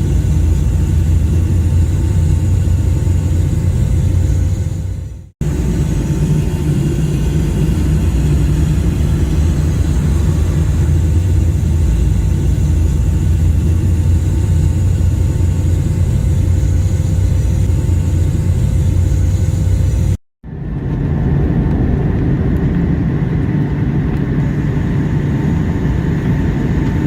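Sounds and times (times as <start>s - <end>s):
airliner cabin engine rumble: 0.0s - 27.0s
faint hum: 0.0s - 27.0s.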